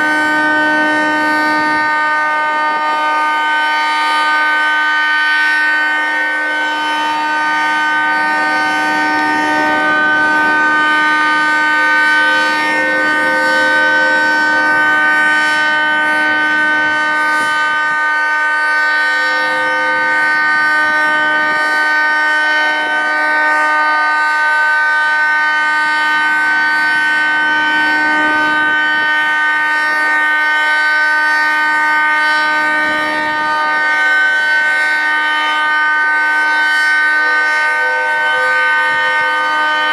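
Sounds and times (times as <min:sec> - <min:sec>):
outdoor warning siren steady chord: 0:00.0 - 0:39.9.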